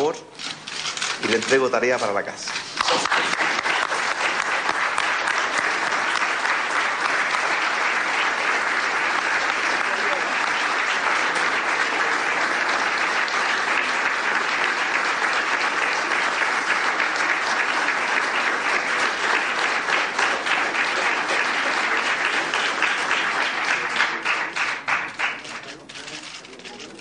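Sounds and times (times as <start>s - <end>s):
audience applauding: 0.8s - 27.0s.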